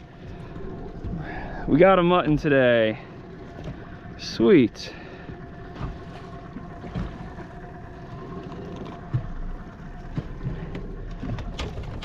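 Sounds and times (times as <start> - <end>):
boat noise: 0.0 - 12.0.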